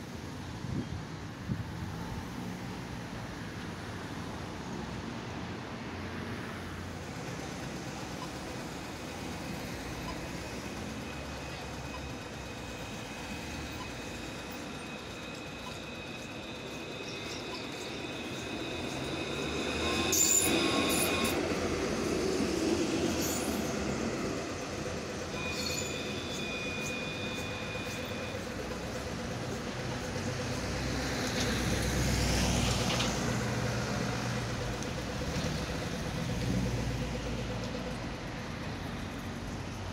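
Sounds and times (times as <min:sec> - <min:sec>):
street traffic: 0:00.0 - 0:39.9
tram passing: 0:00.0 - 0:39.9
wheels clicking on track: 0:01.4 - 0:39.9
high squeals of wheels on rails: 0:01.7 - 0:39.9.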